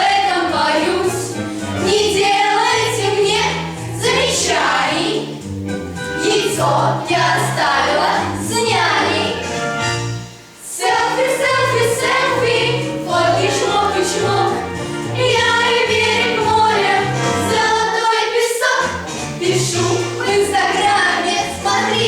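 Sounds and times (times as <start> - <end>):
group of voices singing: 0.0 - 5.5, 6.1 - 9.8, 10.6 - 22.0.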